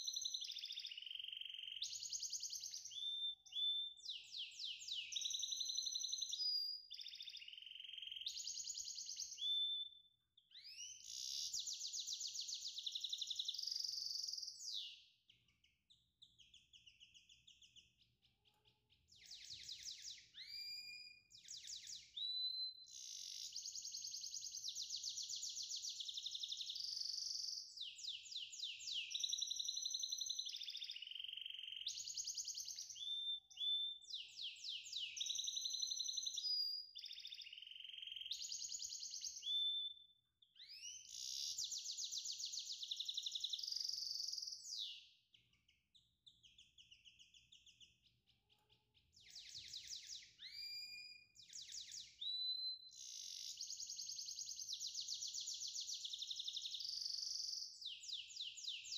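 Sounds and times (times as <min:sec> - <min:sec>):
songbird singing: 0:00.0 - 0:58.9.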